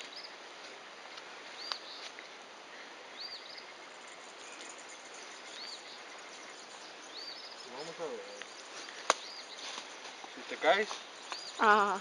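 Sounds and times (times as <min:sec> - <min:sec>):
steady outdoor hiss: 0:00.0 - 0:12.0
bird calling: 0:01.6 - 0:12.0.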